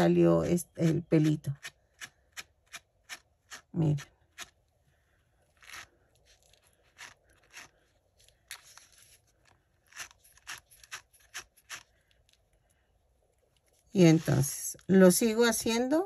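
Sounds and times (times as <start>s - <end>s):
brush scratching yarn: 0.0s - 12.6s, 13.3s - 14.7s.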